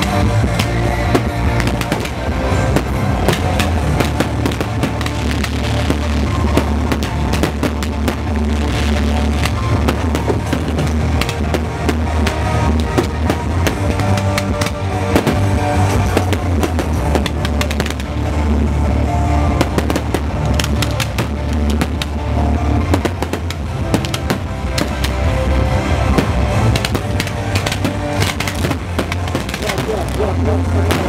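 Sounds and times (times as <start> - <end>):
fireworks bursting and crackling: 0.0 - 31.0
loud music with heavy bass: 0.0 - 31.0.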